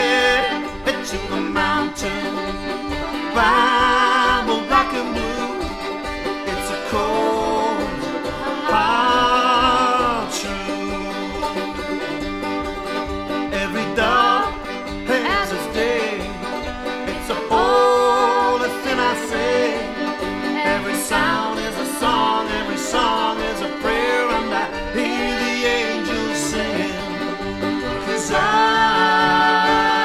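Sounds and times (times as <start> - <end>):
accordion chords: 0.0 - 30.0
fiddle melody: 0.0 - 30.0.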